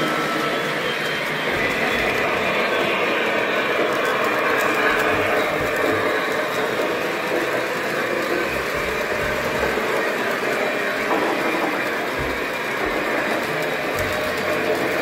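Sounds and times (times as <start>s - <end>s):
model train wheels rumbling on track: 0.0s - 15.0s.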